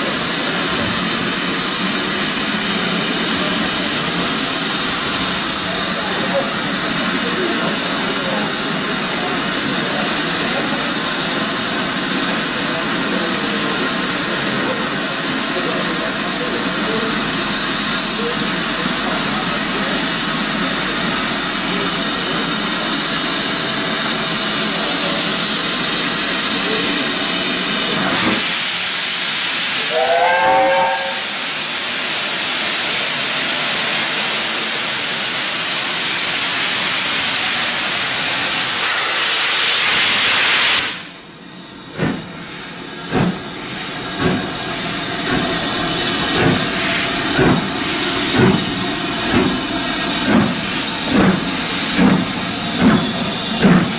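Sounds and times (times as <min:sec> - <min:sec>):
steam hissing: 0:00.0 - 0:53.9
steam locomotive puffs: 0:00.0 - 0:53.9.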